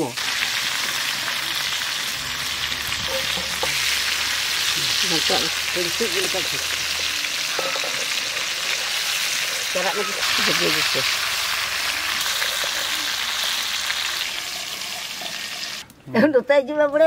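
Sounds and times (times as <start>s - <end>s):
fish sizzling in hot oil: 0.0s - 15.9s.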